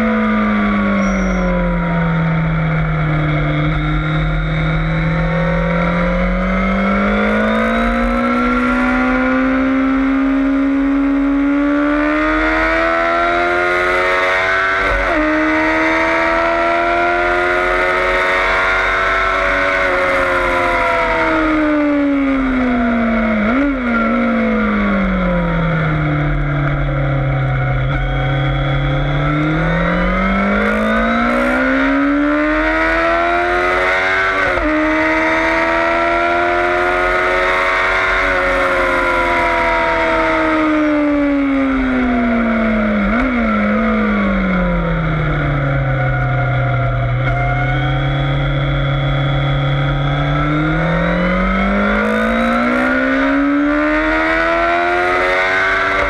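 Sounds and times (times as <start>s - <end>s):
motorcycle engine downshifting and accelerating: 0.0s - 56.0s.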